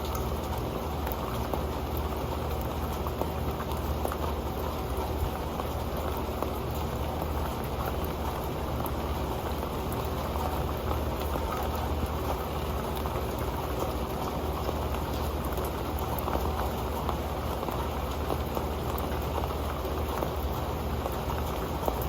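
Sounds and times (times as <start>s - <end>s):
rain on a metal pan: 0.0s - 22.0s.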